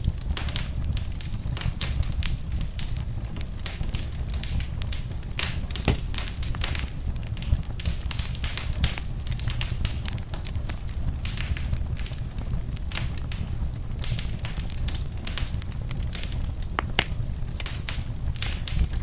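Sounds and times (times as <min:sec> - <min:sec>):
low rush of flame: 0:00.0 - 0:19.0
wood fire crackling: 0:00.0 - 0:19.0
sharp pops and snaps: 0:00.2 - 0:19.0.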